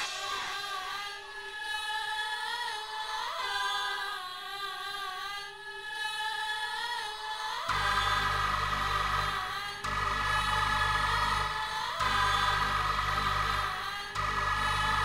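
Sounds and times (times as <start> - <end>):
choir-like voices sustained chords: 0.0 - 15.0.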